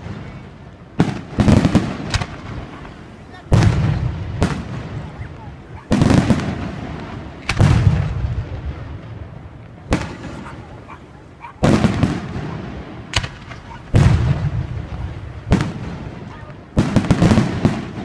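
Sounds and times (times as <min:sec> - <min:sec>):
rolling rumble: 0:00.0 - 0:16.9
fireworks bursting with sharp bangs: 0:00.0 - 0:18.0.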